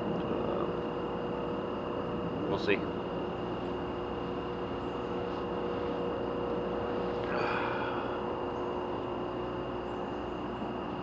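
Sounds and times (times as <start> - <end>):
distant machinery drone: 0.0 - 11.0.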